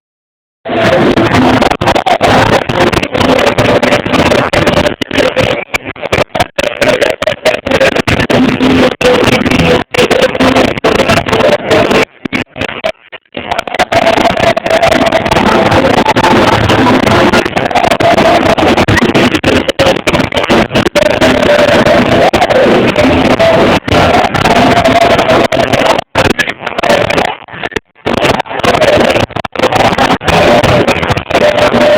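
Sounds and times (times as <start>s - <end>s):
distorted live music: 0.6s - 31.9s.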